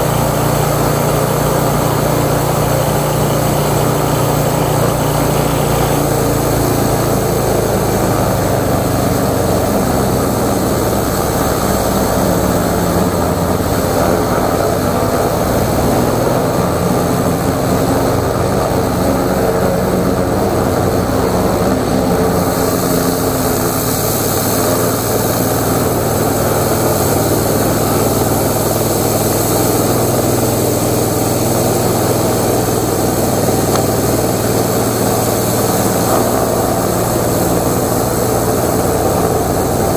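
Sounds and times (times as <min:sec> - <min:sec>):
pressure washer engine running: 0:00.0 - 0:39.9
water jet hissing on wood: 0:00.0 - 0:39.9.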